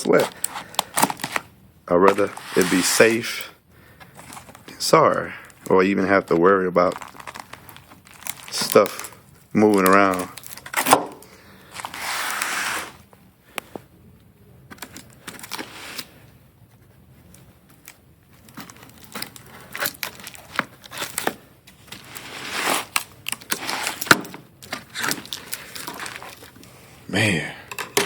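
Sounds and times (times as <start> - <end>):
packing material crinkling: 0.0 - 3.5, 4.1 - 13.0, 14.7 - 16.2, 17.2 - 26.8.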